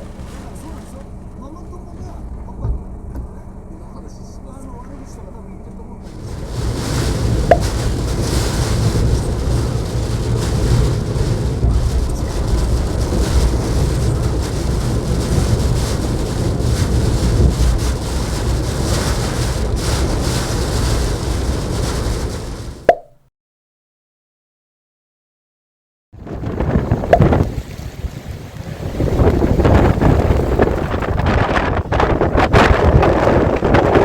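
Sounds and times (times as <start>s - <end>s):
strong wind buffeting microphone: 0.0s - 4.1s, 6.0s - 22.9s, 26.2s - 34.0s.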